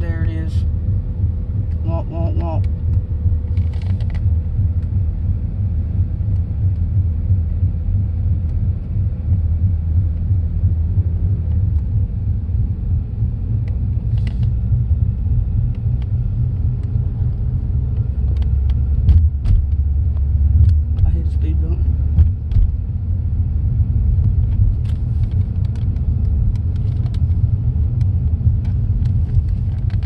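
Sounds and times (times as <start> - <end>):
low rumbling drone in car cabin: 0.0 - 30.0.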